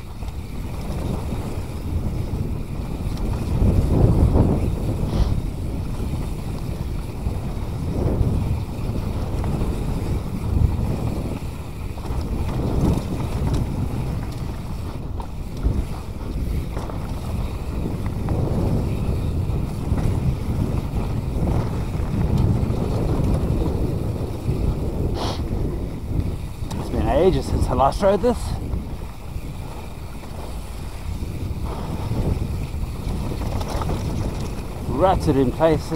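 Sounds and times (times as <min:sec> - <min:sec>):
bike clattering over bumps: 0:00.0 - 0:35.9
bike tyres rumbling on dirt: 0:00.0 - 0:35.9
wind buffeting microphone: 0:00.0 - 0:35.9.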